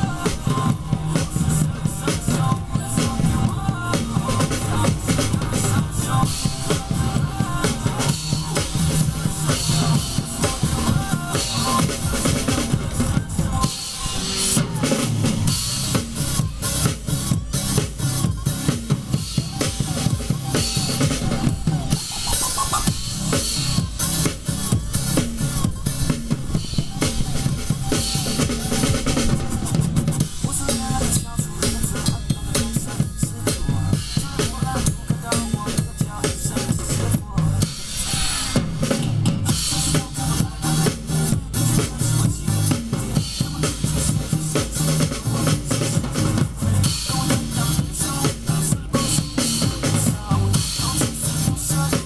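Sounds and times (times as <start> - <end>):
drum kit fast beat: 0.0 - 52.0.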